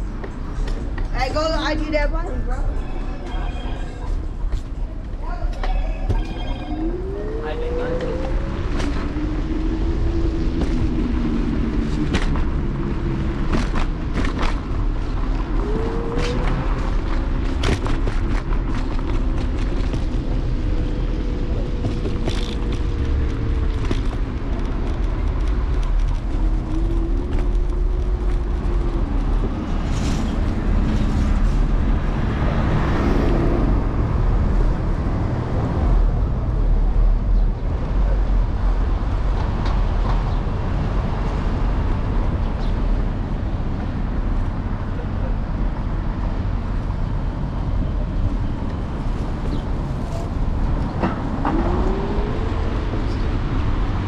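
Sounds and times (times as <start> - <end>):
passing vehicles: 0.0 - 54.0
wind and road noise rumble: 0.0 - 54.0.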